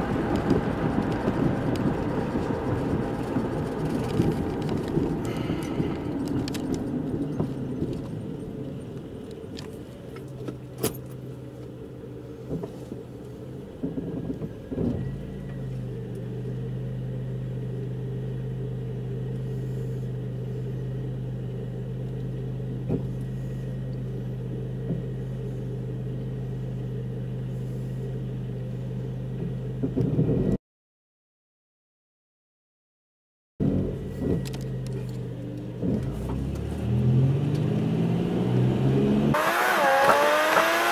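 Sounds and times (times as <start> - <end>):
car engine idling: 0.0 - 30.5, 33.6 - 37.6
road noise inside car: 0.0 - 30.6, 33.6 - 40.9.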